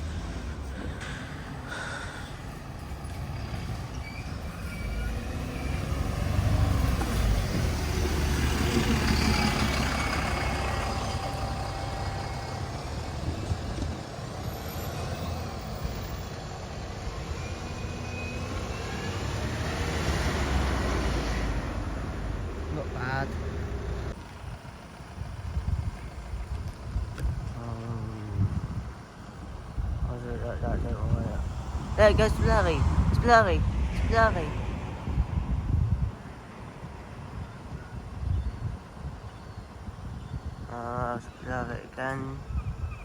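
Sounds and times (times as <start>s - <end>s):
diesel engine rumbling: 0.0s - 43.0s.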